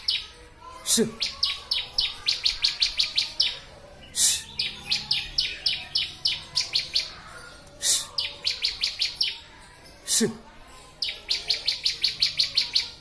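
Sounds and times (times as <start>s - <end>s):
bird singing rasping note and chips: 0.0s - 10.2s, 10.8s - 13.0s.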